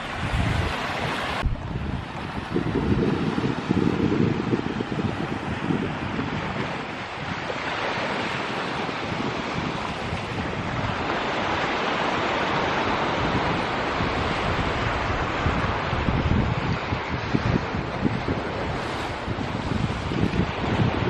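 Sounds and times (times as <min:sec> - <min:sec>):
ocean surf breaking on shore: 0:00.0 - 0:21.0
wind buffeting microphone: 0:00.0 - 0:21.0.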